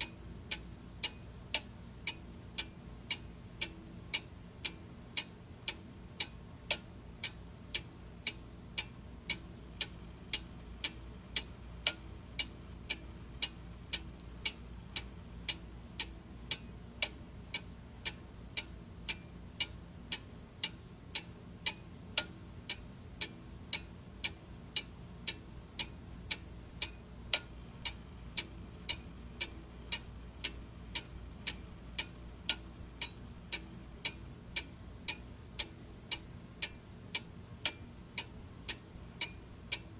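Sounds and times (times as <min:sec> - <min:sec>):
clock ticking: 0:00.0 - 0:39.9
faint steady low hum: 0:00.0 - 0:39.9.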